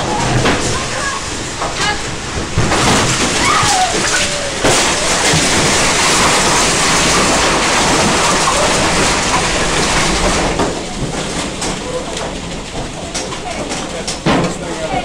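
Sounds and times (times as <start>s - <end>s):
tornado wind rushing: 0.0s - 13.0s.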